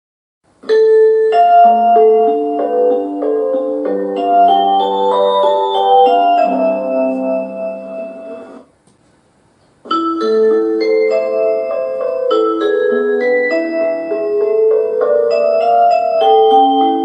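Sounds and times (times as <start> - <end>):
mallet-like keyboard music: 0.6 - 8.6, 9.9 - 17.0.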